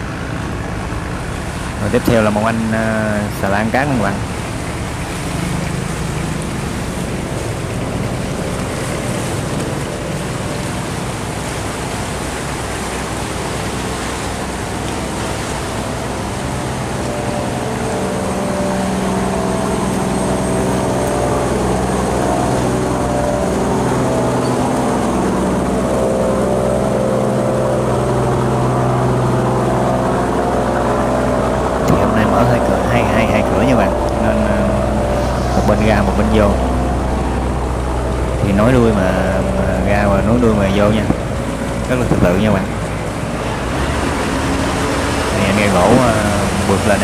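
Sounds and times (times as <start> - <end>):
barge diesel engines running: 0.0 - 47.0
churning rushing water: 0.0 - 47.0.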